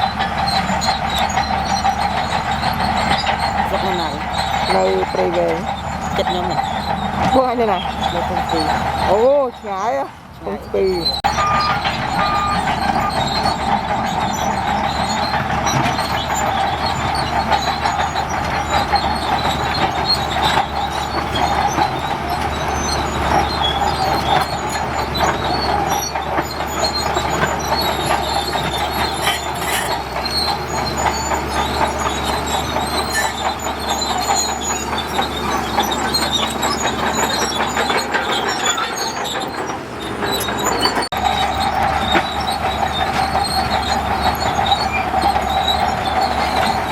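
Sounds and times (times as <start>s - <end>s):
bulldozer diesel engine droning: 0.0s - 46.9s
steel tracks clanking and squealing: 0.0s - 46.9s.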